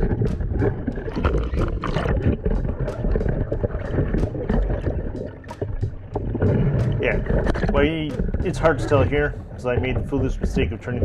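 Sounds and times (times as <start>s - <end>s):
heavy rumble: 0.0s - 11.0s
waves splashing around kayak: 0.0s - 11.0s
wind buffeting microphone: 0.0s - 11.0s.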